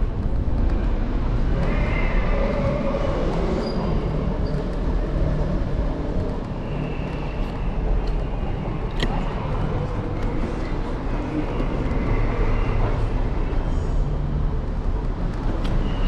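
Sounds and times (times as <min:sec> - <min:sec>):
wind rumble: 0:00.0 - 0:16.0.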